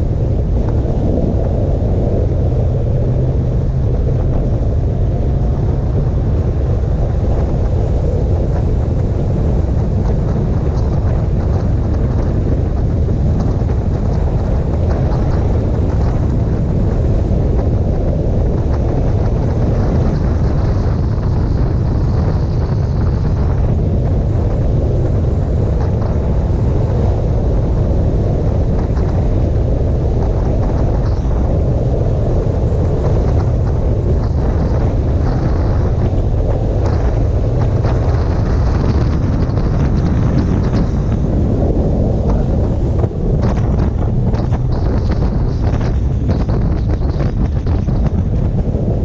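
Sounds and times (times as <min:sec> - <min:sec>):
motorcycle running noise: 0:00.0 - 0:49.0
wind rush over microphone: 0:00.0 - 0:49.0.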